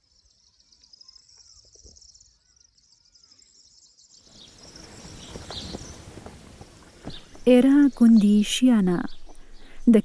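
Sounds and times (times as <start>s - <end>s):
faint bird chirps: 0.0s - 10.0s
insects trilling: 0.0s - 10.0s
outdoor ambience: 0.0s - 10.0s.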